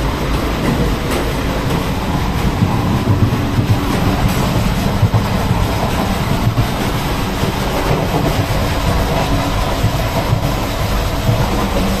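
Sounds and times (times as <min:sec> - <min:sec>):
train coach rumbling on track: 0:00.0 - 0:12.0
irregular clatter and rattle: 0:00.3 - 0:12.0.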